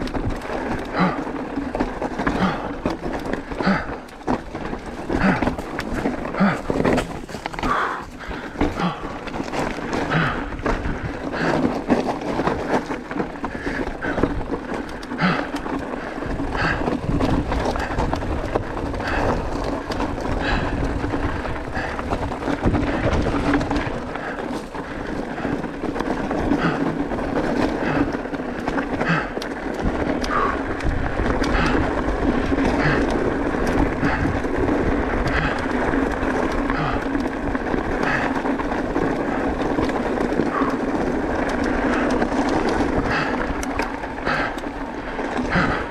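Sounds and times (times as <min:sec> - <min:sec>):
bike knocking and rattling on rocks: 0:00.0 - 0:45.9
tyres rolling over loose stones: 0:00.0 - 0:45.9.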